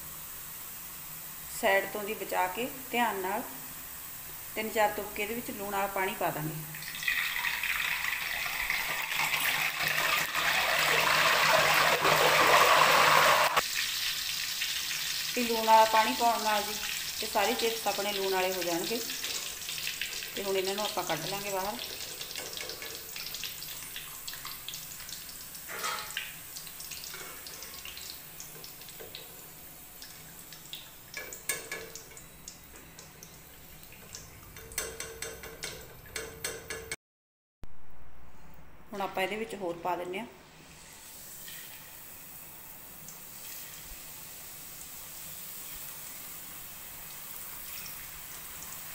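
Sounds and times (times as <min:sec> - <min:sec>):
chips sizzling in hot oil: 0:00.0 - 0:06.0, 0:06.7 - 0:32.7, 0:40.8 - 0:48.9.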